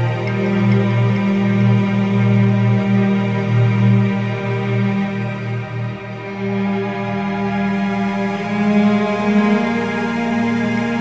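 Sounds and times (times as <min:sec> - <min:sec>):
ambient pad music: 0:00.0 - 0:11.0.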